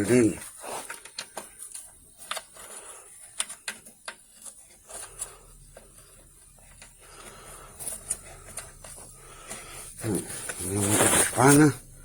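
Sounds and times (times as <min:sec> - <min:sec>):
parts clicking and tapping: 0:00.4 - 0:10.6
faint low hum: 0:01.4 - 0:12.0.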